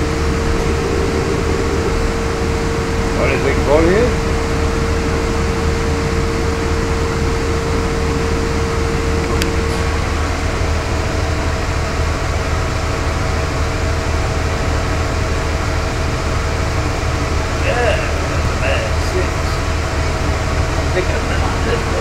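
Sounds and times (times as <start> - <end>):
steady whine: 0.0 - 22.0
vehicle interior rumble and hum: 0.0 - 22.0.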